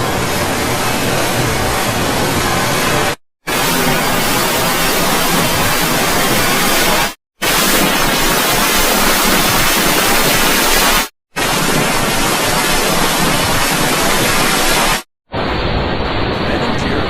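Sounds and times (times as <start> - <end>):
harsh distorted static noise: 0.0 - 17.0.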